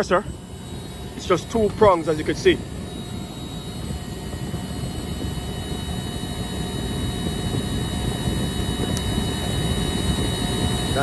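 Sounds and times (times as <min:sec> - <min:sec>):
faint high-pitched whine: 0:00.0 - 0:11.0
hvac equipment rumbling: 0:00.0 - 0:11.0.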